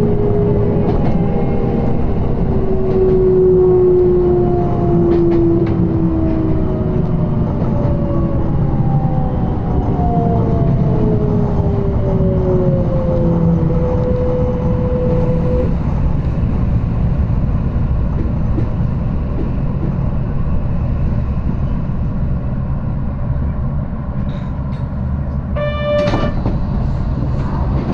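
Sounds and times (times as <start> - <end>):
train motors and wheels rumbling: 0.0 - 27.9.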